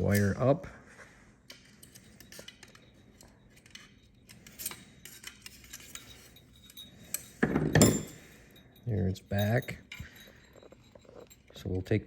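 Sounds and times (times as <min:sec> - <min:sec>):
clinks of small metal parts: 0:00.0 - 0:00.5, 0:01.4 - 0:12.0.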